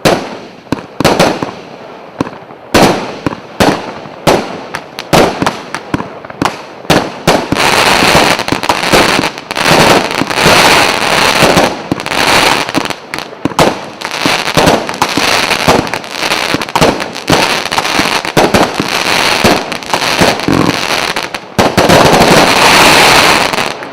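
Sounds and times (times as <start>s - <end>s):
fireworks cake firing: 2.2s - 23.9s.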